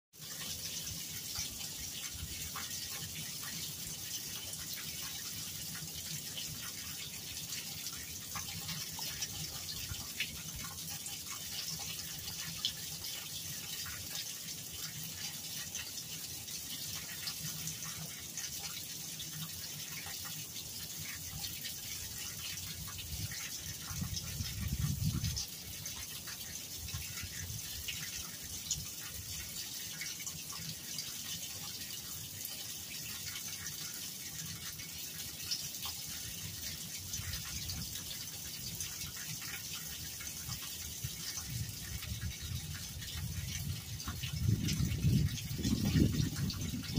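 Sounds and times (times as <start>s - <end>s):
water dripping: 0.2s - 46.9s
water trickling into drain: 0.2s - 46.9s.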